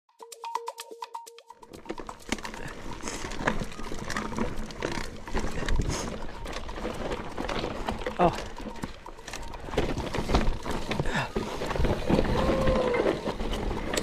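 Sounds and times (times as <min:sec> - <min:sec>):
bike rattling: 0:01.6 - 0:14.0
bike tyres crunching over rock: 0:01.7 - 0:14.0.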